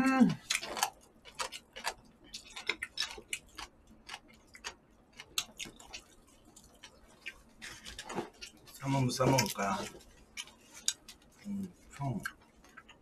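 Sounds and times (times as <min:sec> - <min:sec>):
chewing smacks: 0:00.4 - 0:13.0.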